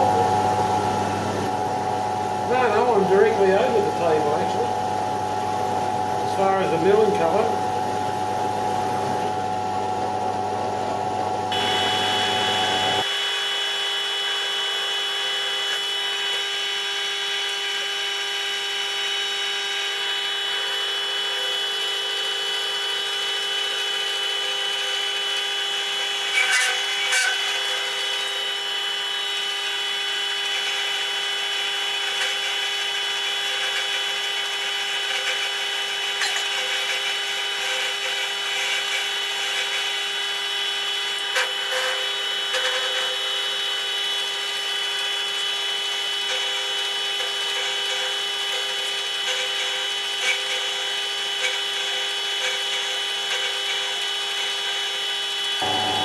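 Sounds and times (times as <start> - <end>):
milling machine cutting metal: 0.0 - 56.0.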